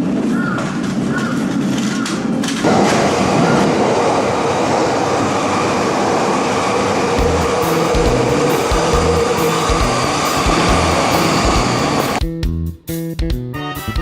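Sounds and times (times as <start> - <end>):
train wheels on rails: 0.0 - 12.2.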